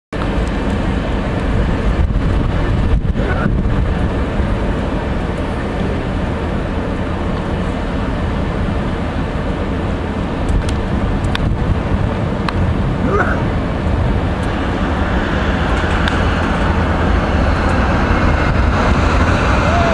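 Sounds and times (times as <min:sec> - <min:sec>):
jet engine noise: 0:00.1 - 0:19.9.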